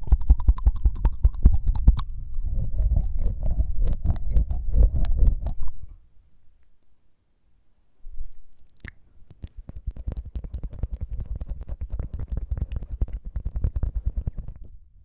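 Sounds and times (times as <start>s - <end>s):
tongue fluttering mouth clicks: 0.0s - 5.8s, 8.4s - 14.8s.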